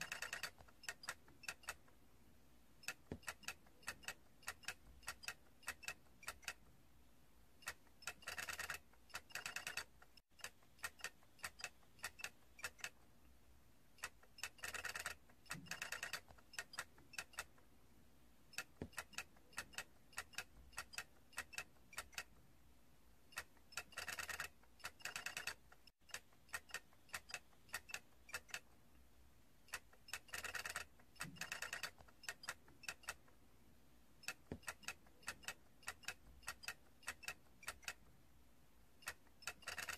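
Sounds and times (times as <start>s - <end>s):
plastic toy mechanism clicking: 0.0s - 1.9s, 2.8s - 6.6s, 7.6s - 13.0s, 14.0s - 17.6s, 18.5s - 22.3s, 23.3s - 28.7s, 29.7s - 33.3s, 34.2s - 38.0s, 39.0s - 39.9s.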